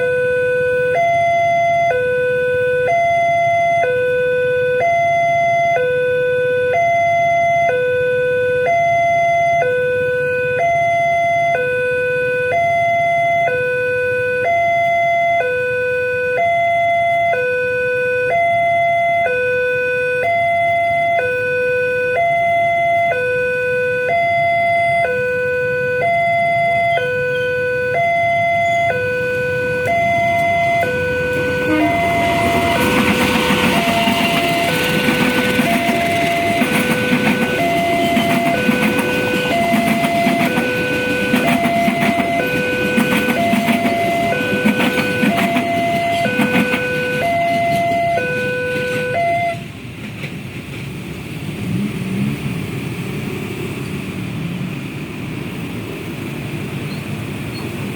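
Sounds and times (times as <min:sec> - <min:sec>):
level crossing alarm two-tone: 0:00.0 - 0:49.7.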